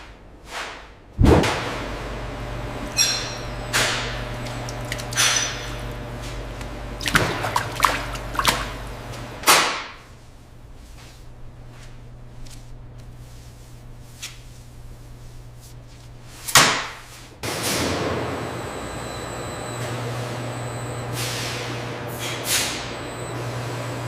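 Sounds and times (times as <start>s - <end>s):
low machine hum: 1.2s - 24.0s.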